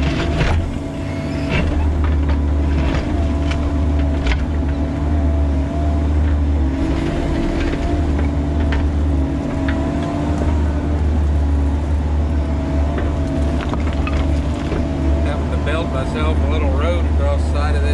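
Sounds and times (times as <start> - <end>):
excavator diesel engine running: 0.0 - 17.9
hydraulic whine: 0.0 - 17.9.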